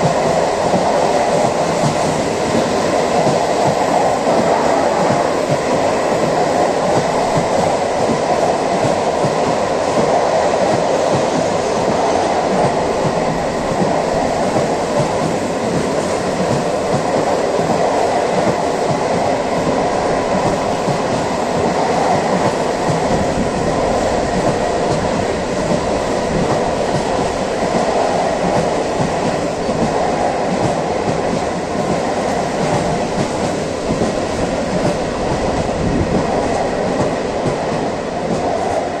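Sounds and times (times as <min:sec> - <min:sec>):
train wheels on rails: 0:00.0 - 0:39.0.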